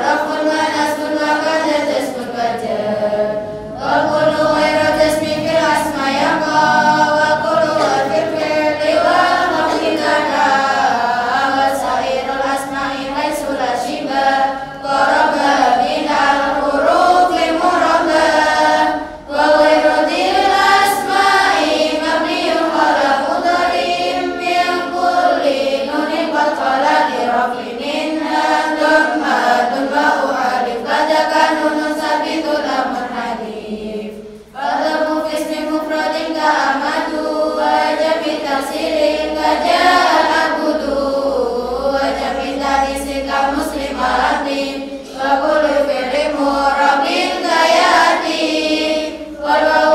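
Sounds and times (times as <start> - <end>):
girls chanting in unison: 0.0 - 49.9.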